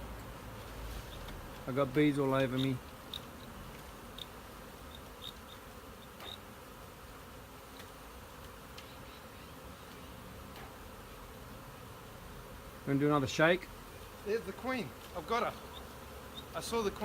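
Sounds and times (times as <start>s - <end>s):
swarm of bees buzzing: 0.0s - 17.0s.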